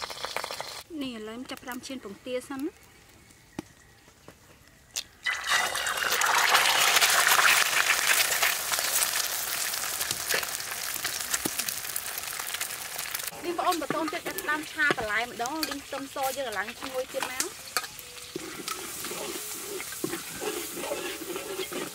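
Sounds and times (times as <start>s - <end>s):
egg sizzling in hot oil: 0.0s - 0.9s, 5.2s - 21.9s.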